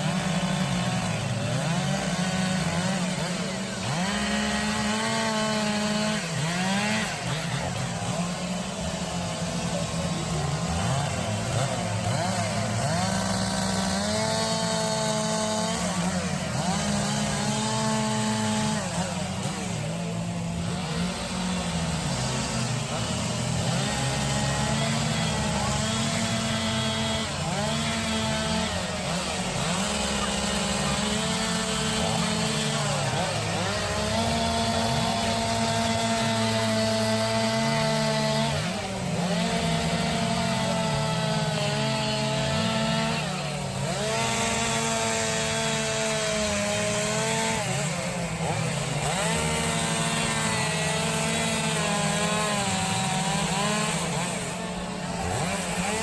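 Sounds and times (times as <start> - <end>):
chainsaw carving wood: 0.0 - 56.0.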